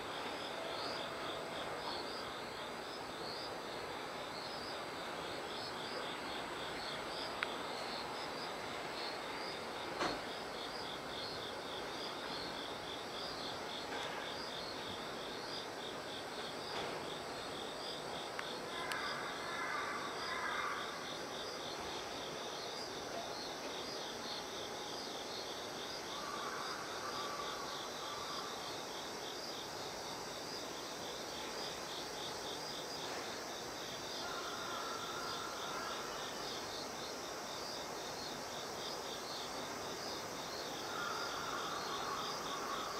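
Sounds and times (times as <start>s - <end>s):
crickets chirping: 0.0s - 42.9s
lower-pitched insect call: 0.0s - 42.9s.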